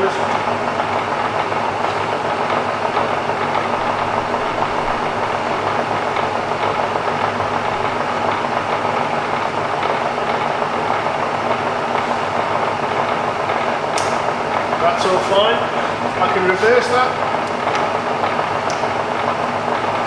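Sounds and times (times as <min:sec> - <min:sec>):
milling machine motor running: 0:00.0 - 0:20.0.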